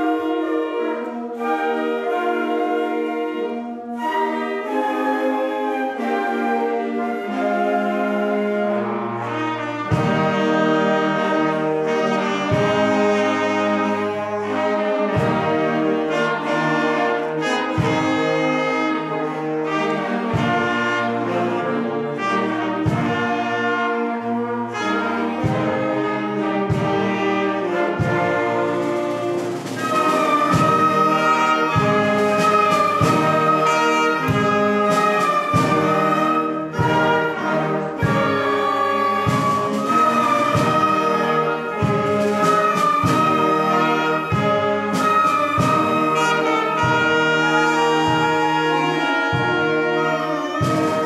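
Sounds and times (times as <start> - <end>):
wind band playing held chords: 0.0 - 51.0.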